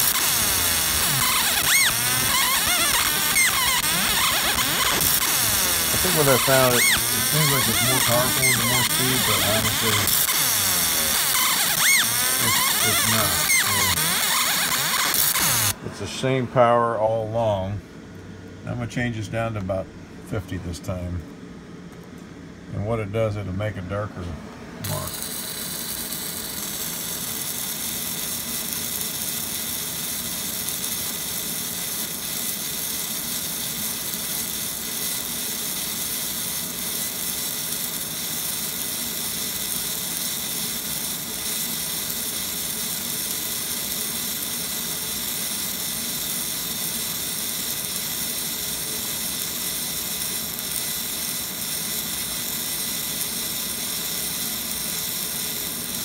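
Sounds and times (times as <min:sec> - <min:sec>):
laser marker hiss: 0:00.0 - 0:15.8, 0:24.8 - 0:56.0.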